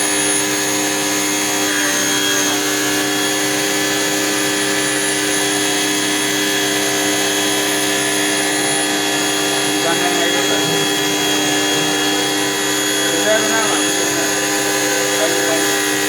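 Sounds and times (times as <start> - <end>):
drain-cleaning machine running: 0.0 - 16.0.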